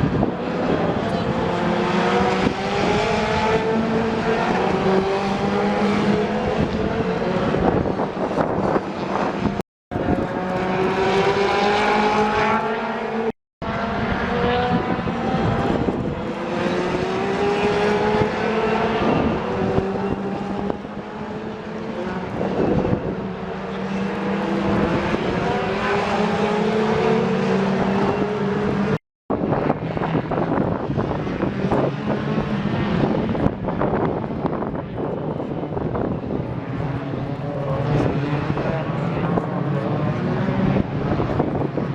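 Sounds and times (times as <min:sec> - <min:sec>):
racing car engines accelerating: 0:00.0 - 0:41.9.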